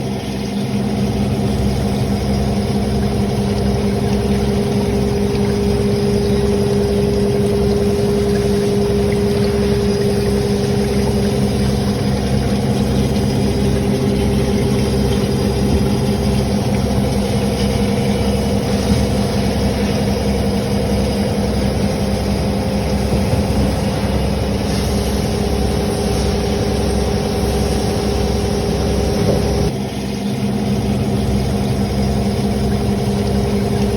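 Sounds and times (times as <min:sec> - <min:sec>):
machine mechanical hum: 0:00.0 - 0:33.9.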